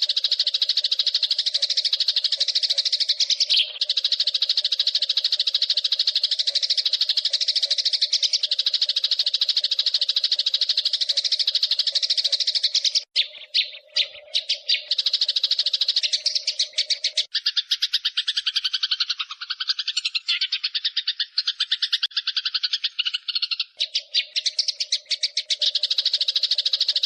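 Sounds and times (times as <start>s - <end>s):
sparrows chattering: 0.0s - 27.0s.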